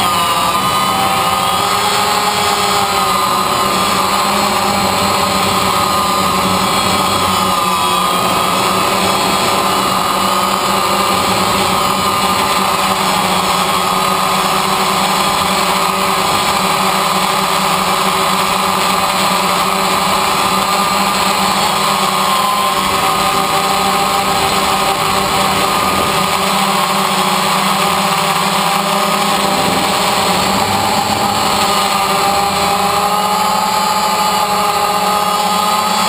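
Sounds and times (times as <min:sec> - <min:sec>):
drone propellers whining: 0:00.0 - 0:36.0.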